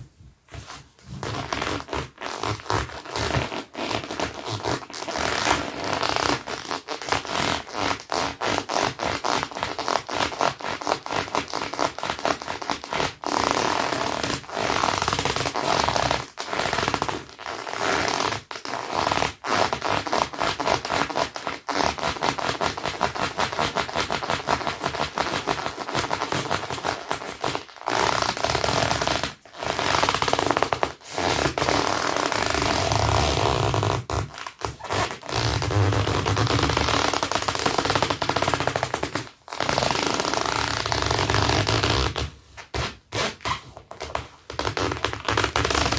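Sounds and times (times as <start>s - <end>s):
leather boots squeaking against each other: 0.5s - 45.9s.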